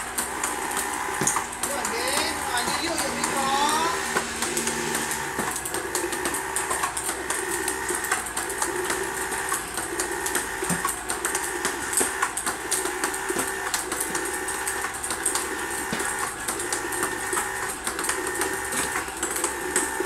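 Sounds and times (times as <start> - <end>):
motor whir: 0.0 - 20.0
table tennis balls clicking: 0.0 - 20.0.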